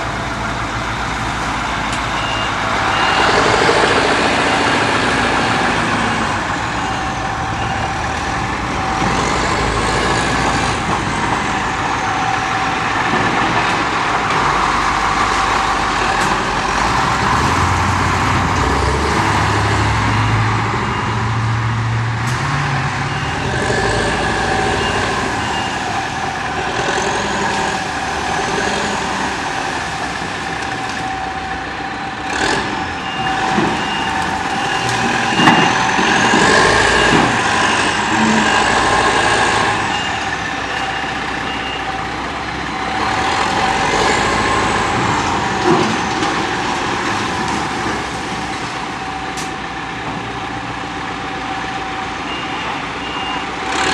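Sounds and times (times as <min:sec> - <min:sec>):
heavy diesel engines working: 0:00.0 - 0:53.9.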